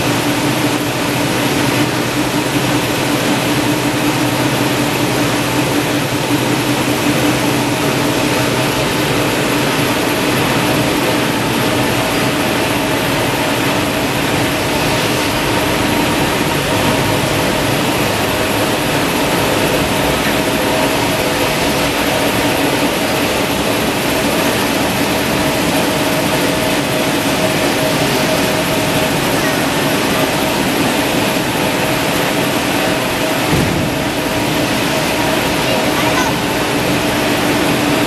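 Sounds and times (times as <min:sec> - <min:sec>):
machine drone and hum: 0:00.0 - 0:38.0.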